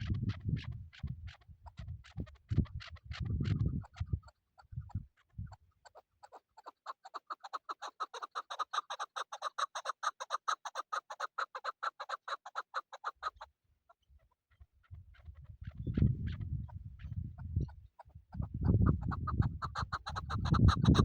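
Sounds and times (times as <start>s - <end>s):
partridge clucking call: 0.0s - 13.5s, 17.0s - 21.0s.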